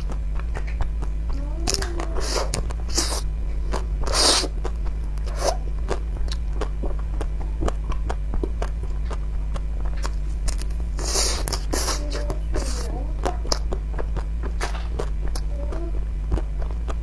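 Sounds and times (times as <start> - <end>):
ice cream shell crunching: 0.0 - 17.0
steady low hum: 0.0 - 17.0.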